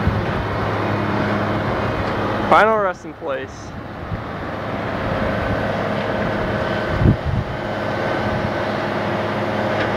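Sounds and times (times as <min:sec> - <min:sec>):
diesel engine humming: 0:00.0 - 0:09.9.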